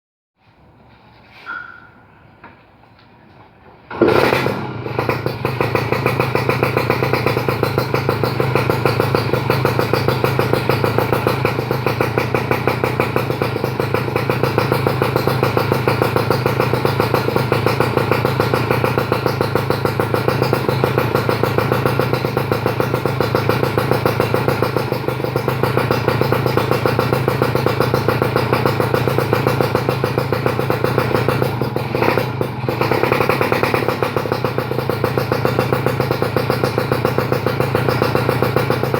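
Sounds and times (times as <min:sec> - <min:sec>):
two-stroke engine running: 0:03.9 - 0:38.9.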